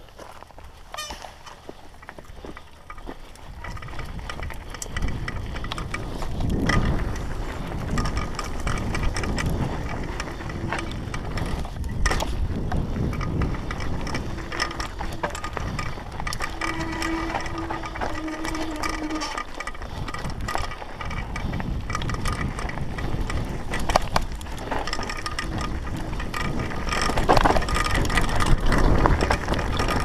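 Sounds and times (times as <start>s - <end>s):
bike clicks and rattles: 0.0s - 30.0s
wind rumble on microphone: 0.0s - 30.0s.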